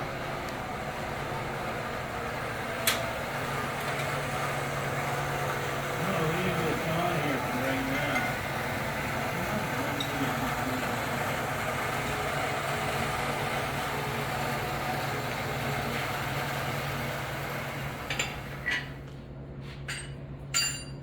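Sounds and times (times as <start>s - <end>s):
engine running steadily: 0.0s - 19.2s.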